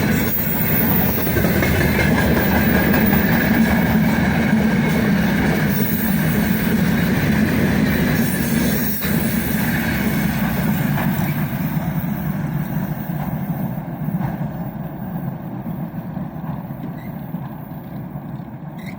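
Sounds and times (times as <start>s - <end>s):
train wagons rolling on rails: 0.0s - 18.9s.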